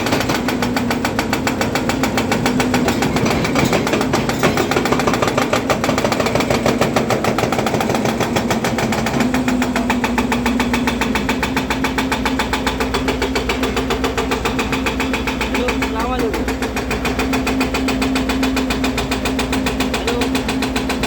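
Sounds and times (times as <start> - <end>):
excavator diesel engine chugging: 0.0 - 21.0.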